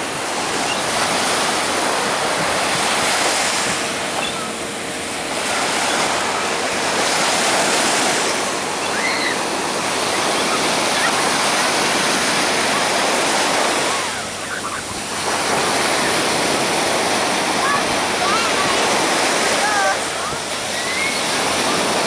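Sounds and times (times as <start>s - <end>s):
small waves washing ashore: 0.0s - 22.0s.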